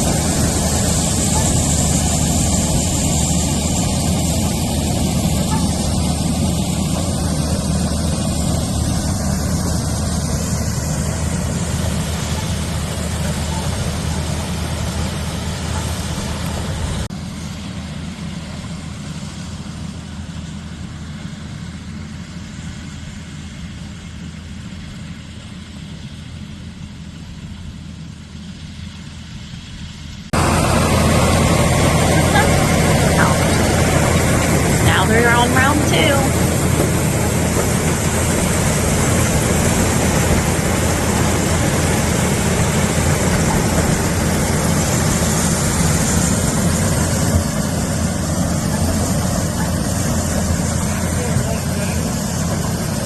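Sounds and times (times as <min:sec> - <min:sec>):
tractor running: 0:00.0 - 0:53.0.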